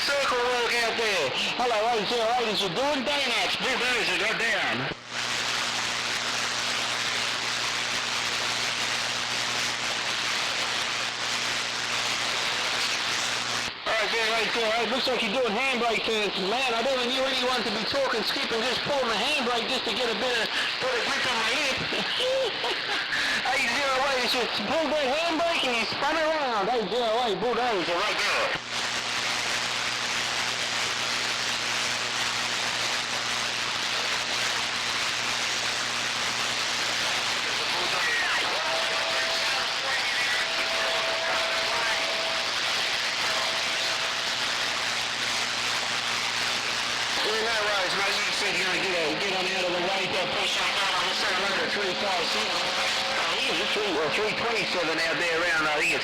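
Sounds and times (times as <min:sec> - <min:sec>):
radio receiver hissing: 0:00.0 - 0:24.2, 0:27.7 - 0:56.0
radio carrier low hum: 0:00.0 - 0:56.0.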